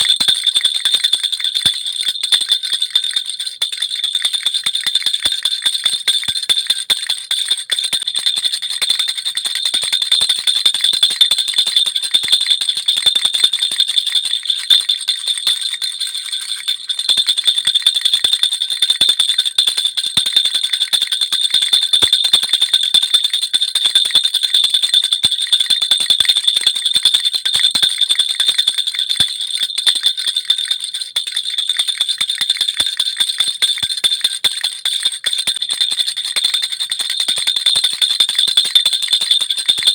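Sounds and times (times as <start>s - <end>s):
baby rattle jingling: 0.0s - 20.4s, 25.6s - 39.9s.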